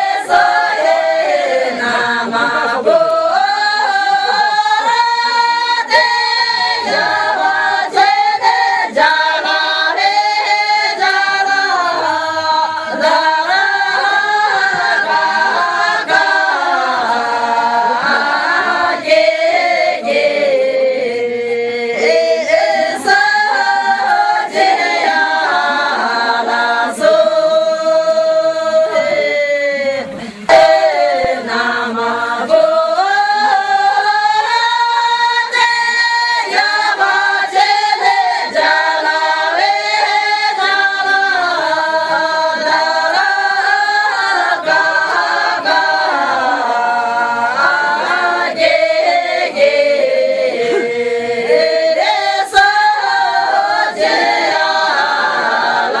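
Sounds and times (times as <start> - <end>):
women singing unaccompanied: 0.0 - 56.0.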